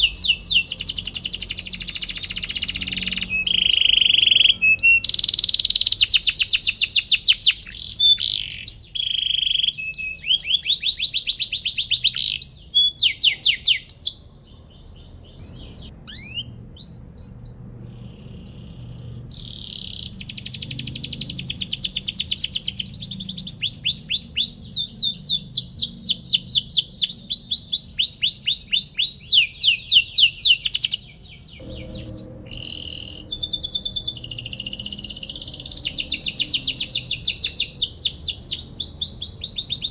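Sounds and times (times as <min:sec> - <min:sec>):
canary singing in trills: 0:00.0 - 0:39.9.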